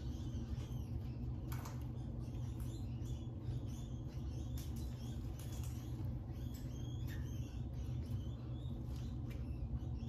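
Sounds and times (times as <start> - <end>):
rats squeaking: 0.0 - 10.0
steady low hum: 0.0 - 10.0.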